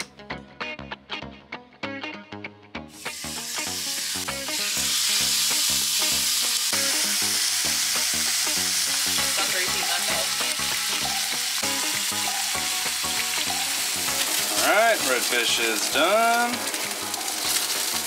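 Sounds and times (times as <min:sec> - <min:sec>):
background music: 0:00.0 - 0:18.0
fish frying in a pan: 0:02.9 - 0:18.0.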